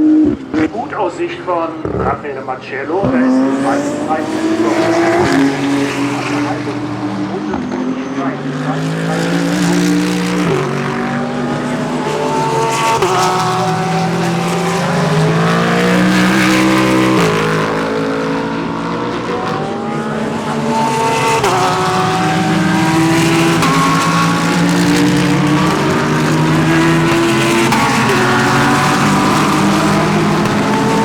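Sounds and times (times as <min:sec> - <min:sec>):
race car engines accelerating: 0:00.0 - 0:31.0.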